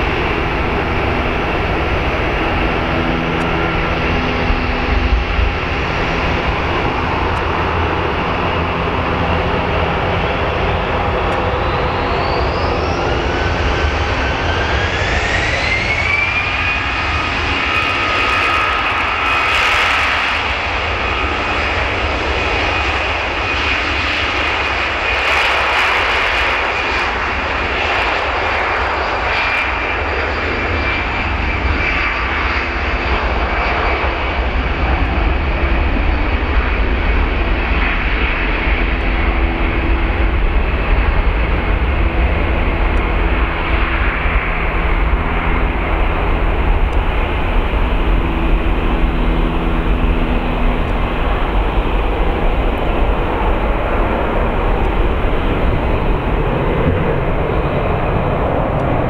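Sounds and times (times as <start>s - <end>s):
jet engine whine rising: 0.0s - 59.0s
jet engines rumbling: 0.0s - 59.0s.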